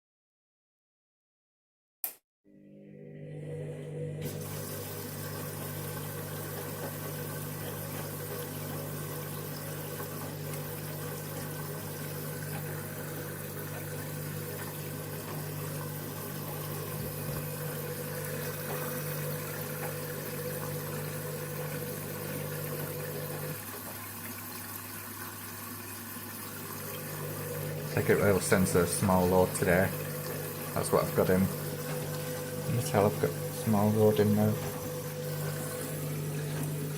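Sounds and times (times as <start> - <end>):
washing machine motor humming: 2.5 - 36.9.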